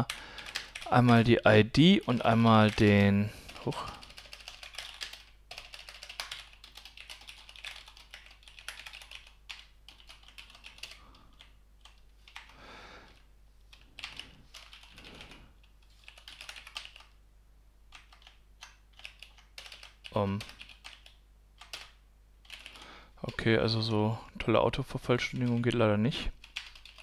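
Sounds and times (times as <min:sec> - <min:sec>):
typing on computer keyboard: 0:00.0 - 0:01.2, 0:02.0 - 0:17.2, 0:17.9 - 0:22.9, 0:25.3 - 0:25.7, 0:26.4 - 0:27.0.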